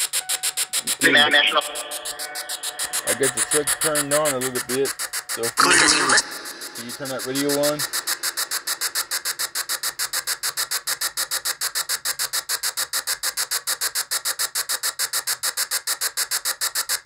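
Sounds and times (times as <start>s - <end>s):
chopping static hiss: 0.0s - 15.5s.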